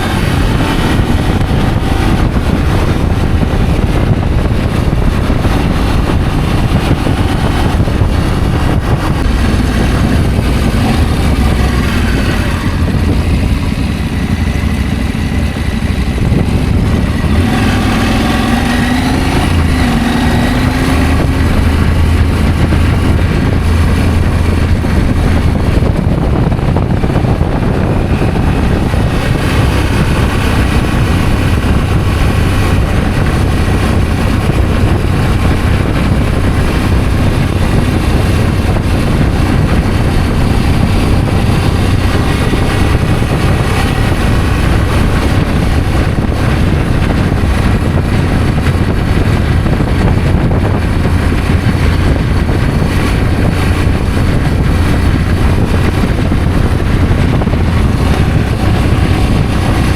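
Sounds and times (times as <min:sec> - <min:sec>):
motorcycle engine droning: 0:00.0 - 0:59.9
road and wind noise: 0:00.0 - 0:59.9.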